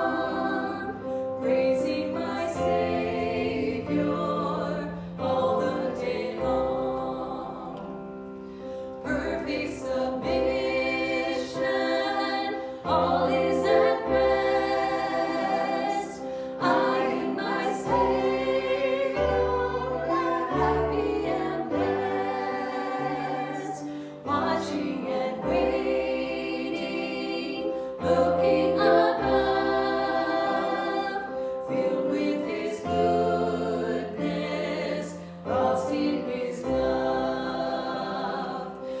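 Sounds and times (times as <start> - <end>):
choir singing sustained chords: 0.0 - 8.3, 9.0 - 39.0.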